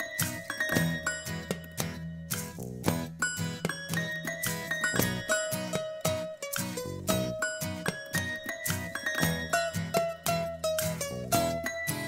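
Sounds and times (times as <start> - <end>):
melody of struck notes: 0.0 - 12.0.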